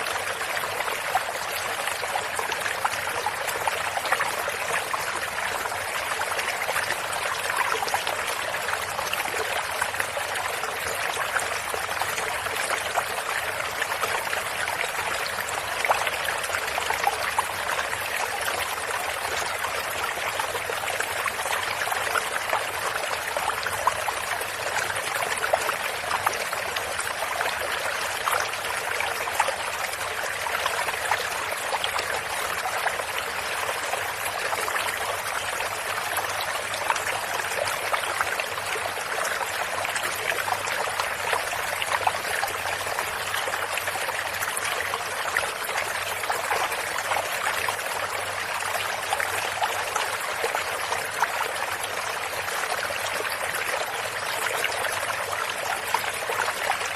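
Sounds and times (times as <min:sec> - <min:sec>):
stream babbling over stones: 0:00.0 - 0:56.9.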